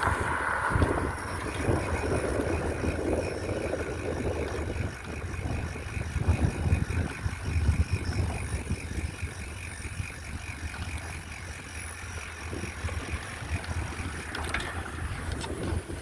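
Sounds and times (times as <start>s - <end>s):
bicycle freewheel ticking: 0.0s - 16.0s
wind rumble on microphone: 0.0s - 16.0s.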